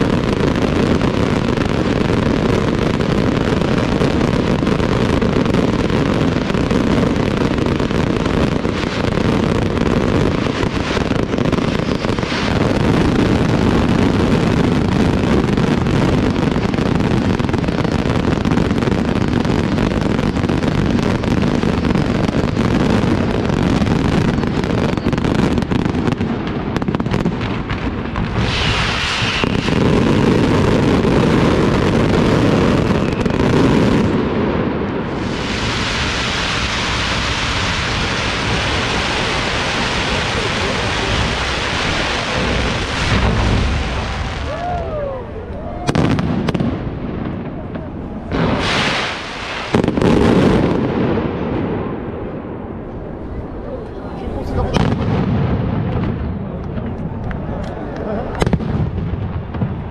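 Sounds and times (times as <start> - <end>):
fireworks bursting: 0.0 - 59.9
fireworks hiss and crackle: 0.0 - 59.9.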